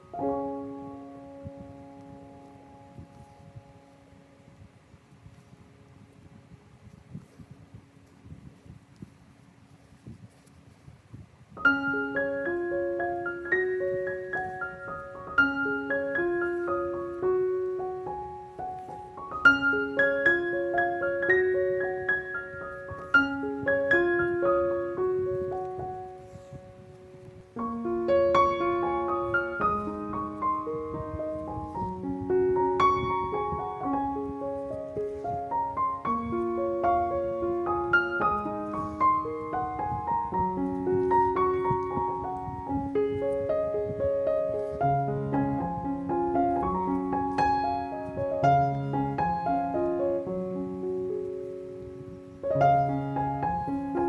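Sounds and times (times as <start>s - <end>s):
piano melody: 0.0s - 7.4s, 11.5s - 54.0s.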